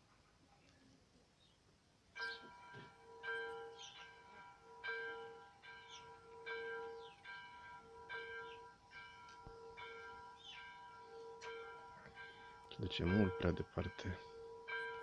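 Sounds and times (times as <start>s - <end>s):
church bells ringing: 2.2s - 15.0s.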